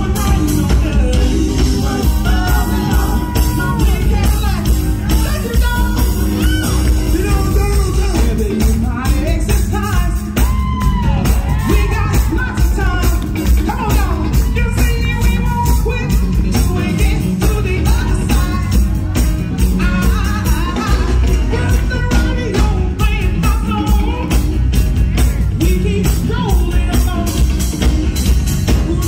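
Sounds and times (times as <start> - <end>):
soul band playing: 0.0 - 29.0.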